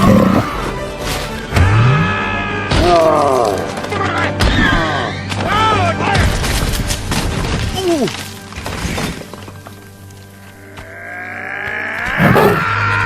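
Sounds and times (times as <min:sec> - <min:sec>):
film score music: 0:00.0 - 0:13.0.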